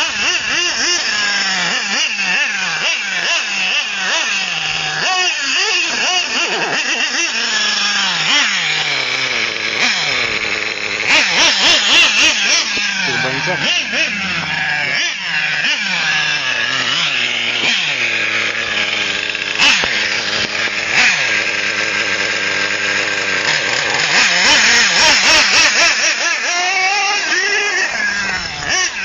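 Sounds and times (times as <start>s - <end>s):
rc car engine revving: 0.0s - 29.0s.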